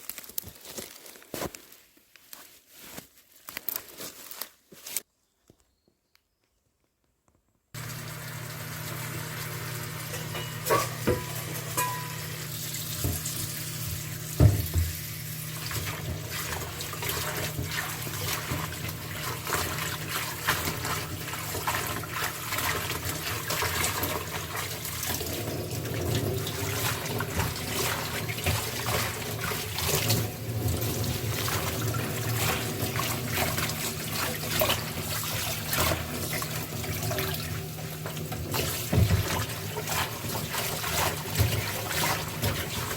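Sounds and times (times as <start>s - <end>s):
running water: 7.8s - 42.9s.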